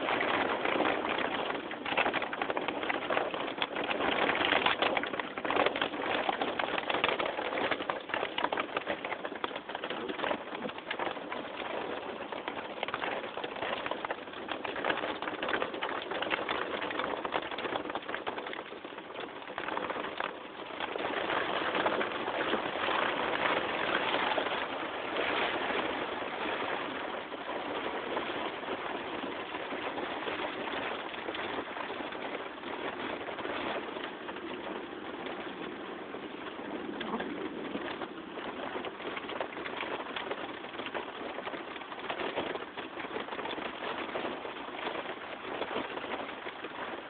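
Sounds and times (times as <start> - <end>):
heavy rain on car roof: 0.0 - 47.0.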